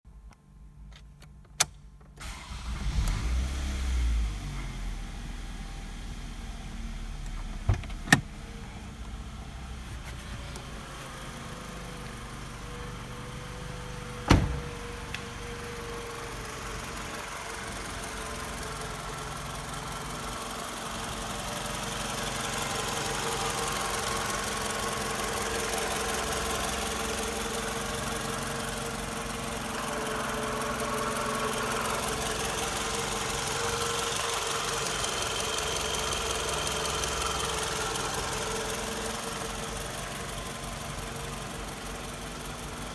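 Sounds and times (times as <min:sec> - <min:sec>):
car engine idling: 0:05.4 - 0:42.9.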